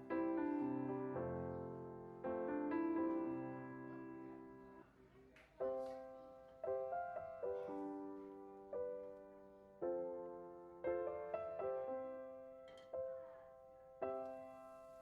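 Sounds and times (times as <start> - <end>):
slow piano chords: 0.0 - 4.9, 5.6 - 15.0.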